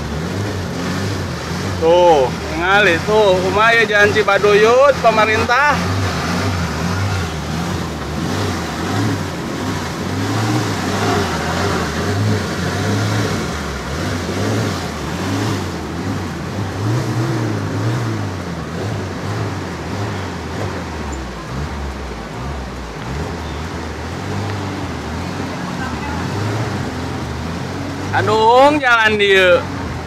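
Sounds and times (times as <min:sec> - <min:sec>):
rush of water: 0:00.0 - 0:30.0
vehicle engine revving: 0:00.0 - 0:30.0.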